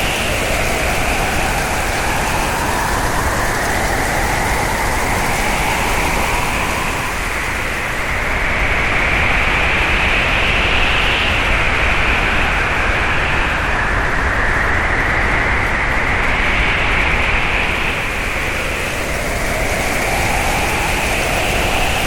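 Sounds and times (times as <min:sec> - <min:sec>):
hurricane wind howling: 0:00.0 - 0:22.0
whistling wind tone: 0:00.0 - 0:22.0.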